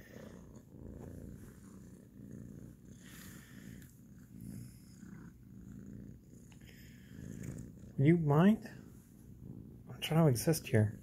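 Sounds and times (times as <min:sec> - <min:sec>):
kitten purring: 0:00.0 - 0:11.0.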